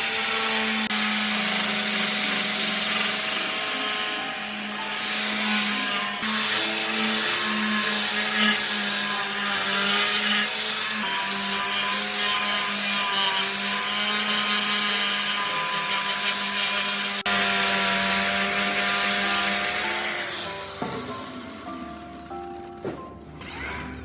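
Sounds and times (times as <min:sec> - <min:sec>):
power tool motor humming on metal: 0:00.0 - 0:22.5.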